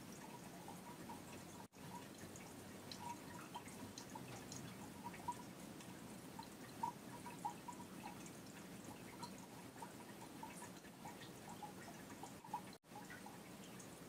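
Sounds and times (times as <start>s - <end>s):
water drips plinking: 0.0s - 14.0s
water trickling: 0.0s - 14.0s.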